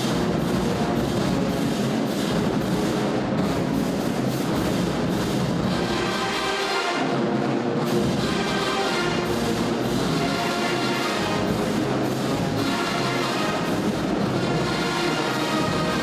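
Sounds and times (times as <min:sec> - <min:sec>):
band playing brass and drums: 0:00.0 - 0:16.0.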